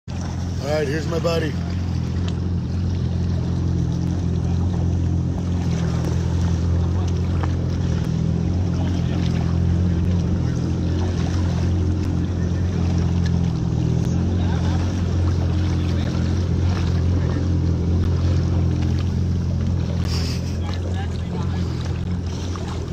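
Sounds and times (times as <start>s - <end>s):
jet ski engine idling: 0.1s - 22.9s.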